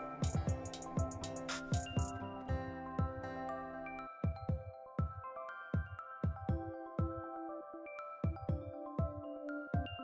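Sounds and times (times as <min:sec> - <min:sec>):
soft electronic music: 0:00.0 - 0:10.0.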